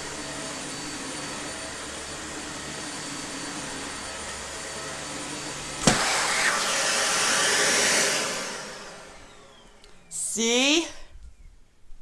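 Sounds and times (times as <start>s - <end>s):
vacuum cleaner running: 0.0s - 11.4s.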